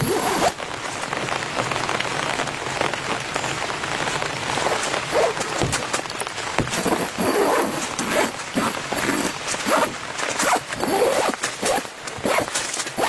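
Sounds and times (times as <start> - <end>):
rain falling on a tent: 0.0 - 13.0.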